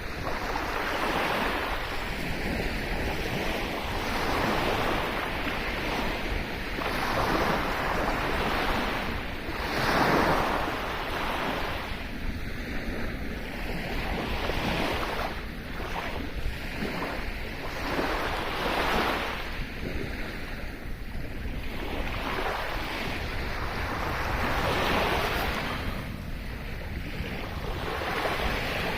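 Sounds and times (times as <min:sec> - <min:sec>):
sea waves breaking on shore: 0:00.0 - 0:28.9
wind on microphone: 0:00.0 - 0:28.9.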